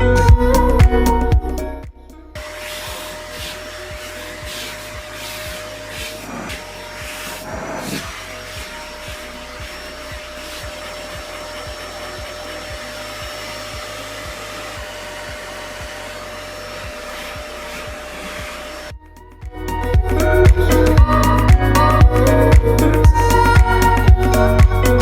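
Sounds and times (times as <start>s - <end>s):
electric motor blowing air: 2.4s - 19.0s, 19.6s - 25.0s.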